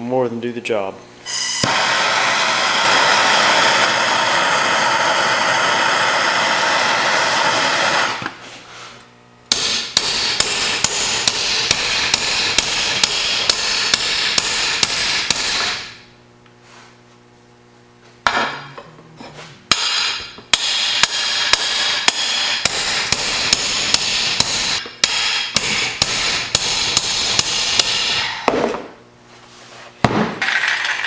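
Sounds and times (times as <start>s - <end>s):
welder arc buzzing and crackling: 1.2s - 18.9s, 19.5s - 28.3s.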